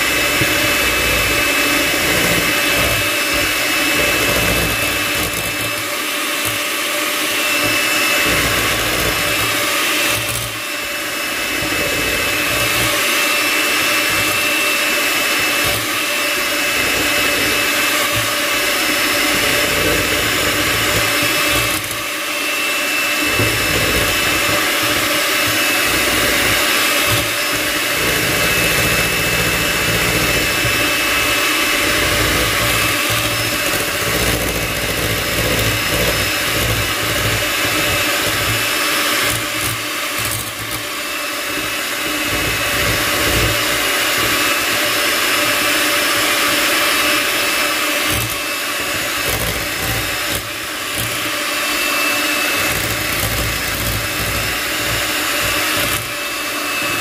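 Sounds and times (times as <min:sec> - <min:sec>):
electric mixer whining: 0:00.0 - 0:57.0.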